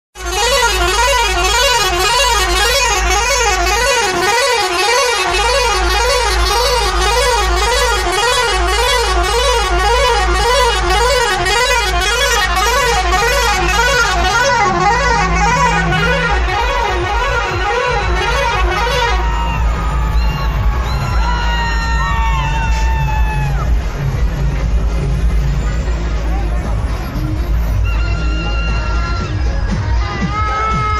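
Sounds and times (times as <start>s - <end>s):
bus engine and road rumble: 0.1s - 30.9s
warbling bus horn: 0.2s - 30.9s.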